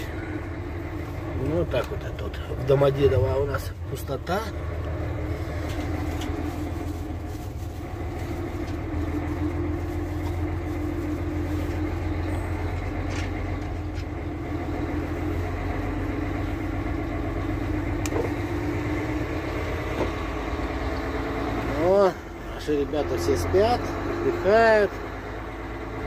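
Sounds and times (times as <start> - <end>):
road noise: 0.0 - 26.0
truck engine drone from cab: 0.0 - 26.0.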